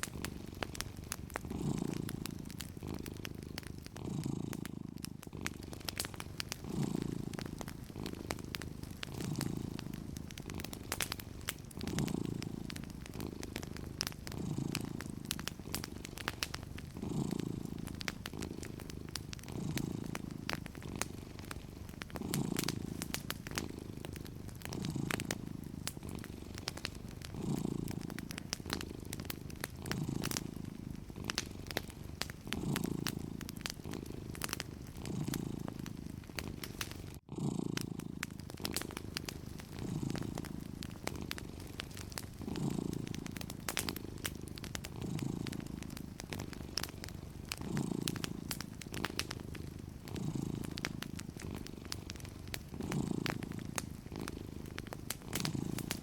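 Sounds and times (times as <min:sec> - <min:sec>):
cat purring: 0:00.0 - 0:56.0
fireplace crackling: 0:00.0 - 0:56.0.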